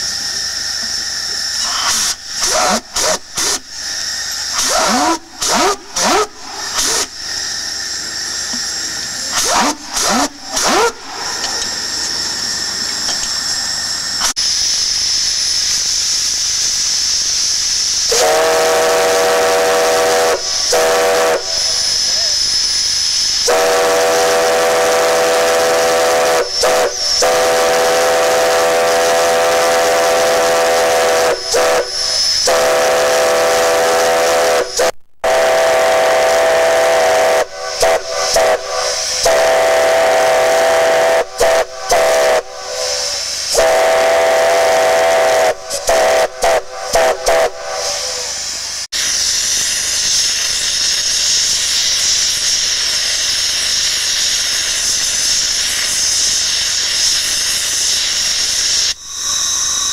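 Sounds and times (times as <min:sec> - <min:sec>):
chime steam whistle: 0:00.0 - 0:59.9
steam hissing: 0:00.0 - 0:59.9.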